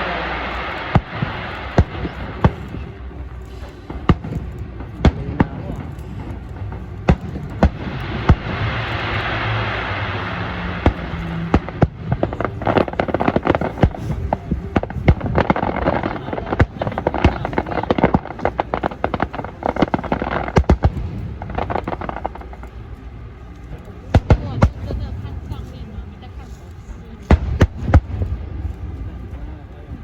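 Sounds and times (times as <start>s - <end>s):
fireworks hissing: 0.0s - 29.6s
fireworks bangs and crackles: 0.0s - 30.0s.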